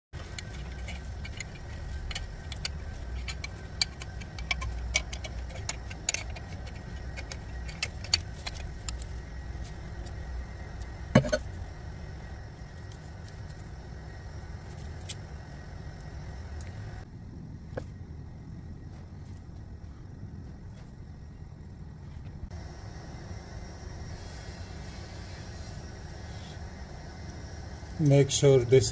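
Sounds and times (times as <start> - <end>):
low rumble: 0.2 - 28.0.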